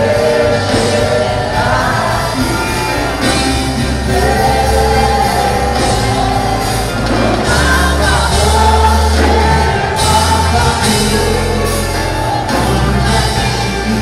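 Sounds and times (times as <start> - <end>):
congregation singing worship song: 0.0 - 14.0
held bass notes: 0.0 - 14.0
instrumental accompaniment: 0.0 - 14.0.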